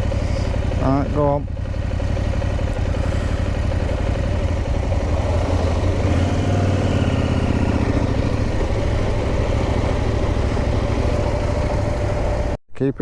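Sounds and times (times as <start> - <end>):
motorcycle engine rising and falling: 0.0 - 12.6
motorcycle engines running: 0.0 - 12.6.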